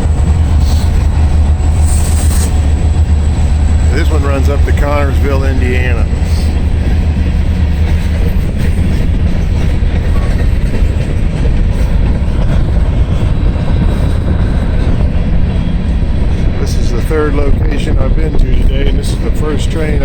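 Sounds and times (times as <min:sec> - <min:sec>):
freight train rumbling past: 0:00.0 - 0:20.0
wind buffeting microphone: 0:00.0 - 0:20.0.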